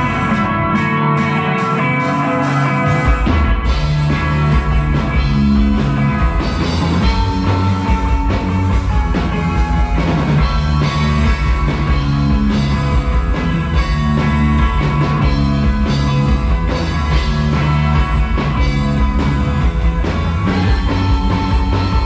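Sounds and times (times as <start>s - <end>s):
bass guitar: 0.0s - 22.0s
distorted guitar chords: 0.0s - 22.0s
drum kit beat: 0.0s - 22.0s.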